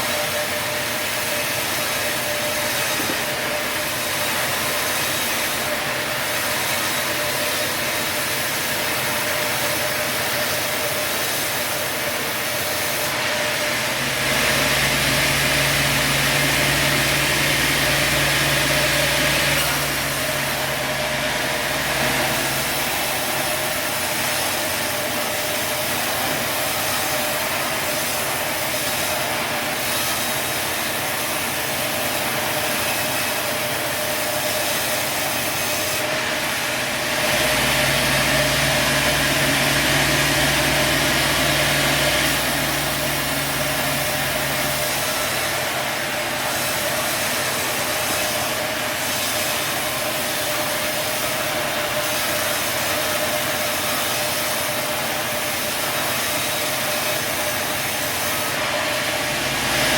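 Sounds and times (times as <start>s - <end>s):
sawmill sawing log: 0.0s - 59.9s.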